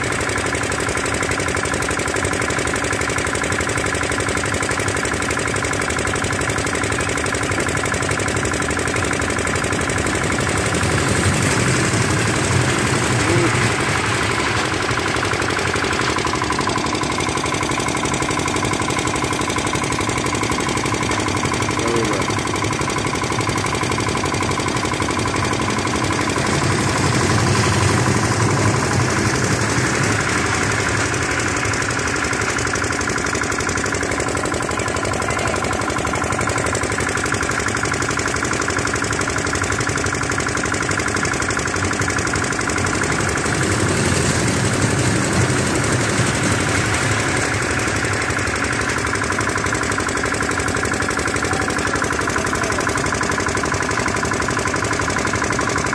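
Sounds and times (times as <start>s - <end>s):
engine running: 0.0s - 55.9s.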